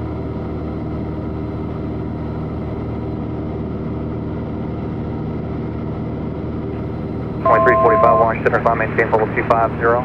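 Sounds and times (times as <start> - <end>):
propeller plane engine drone in cabin: 0.0 - 10.0.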